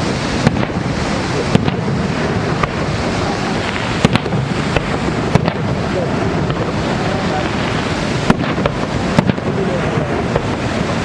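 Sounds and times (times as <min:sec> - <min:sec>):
fireworks bangs: 0:00.0 - 0:11.0
steady rushing noise: 0:00.0 - 0:11.0.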